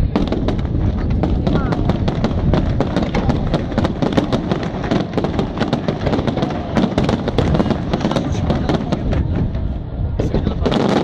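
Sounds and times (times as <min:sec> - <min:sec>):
low rumble: 0:00.0 - 0:10.8
fireworks bangs and crackles: 0:00.0 - 0:11.0.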